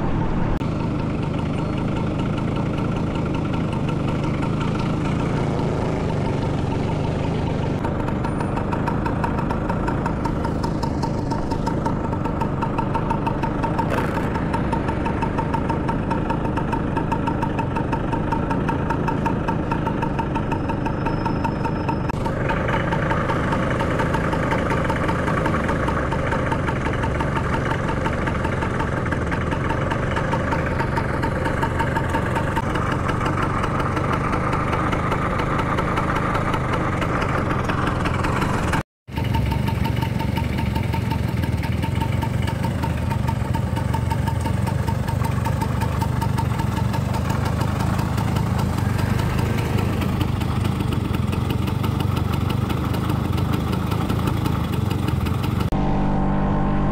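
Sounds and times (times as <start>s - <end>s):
two-stroke scooter engine running: 0.6s - 56.0s.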